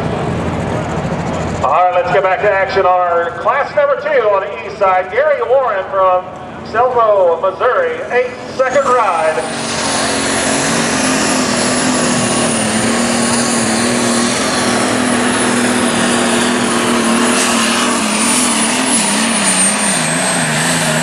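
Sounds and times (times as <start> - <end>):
high whine: 0.0 - 21.0
tractor engine at full throttle: 0.0 - 21.0.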